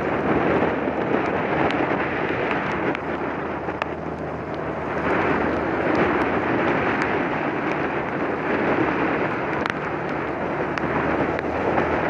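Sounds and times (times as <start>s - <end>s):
low engine hum: 0.0s - 12.0s
tyres hissing on wet road: 0.0s - 12.0s
wind rushing over microphone: 0.0s - 12.0s.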